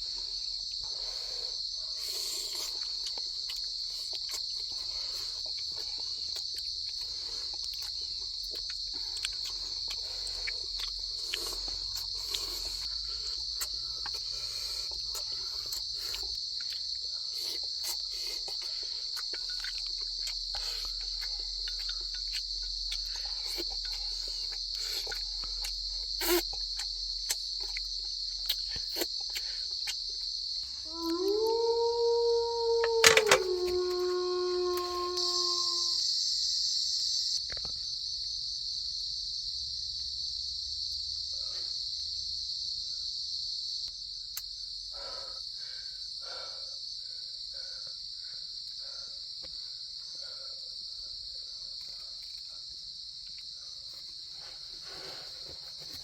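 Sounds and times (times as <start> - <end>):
crickets droning: 0.0 - 56.0.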